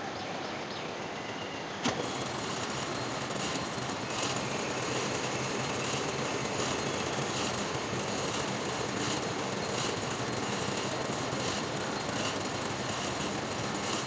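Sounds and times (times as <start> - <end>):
metal lathe running: 1.8 - 14.0.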